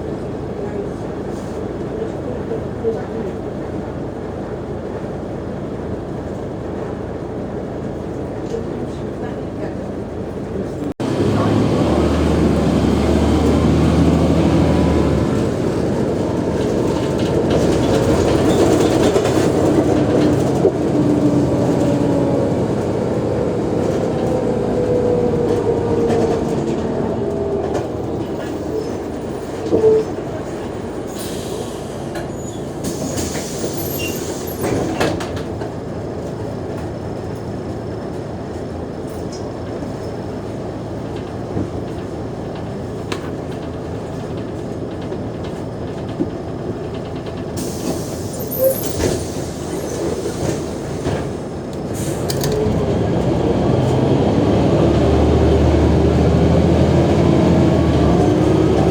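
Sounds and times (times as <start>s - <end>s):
bus engine rumbling: 0.0s - 58.9s.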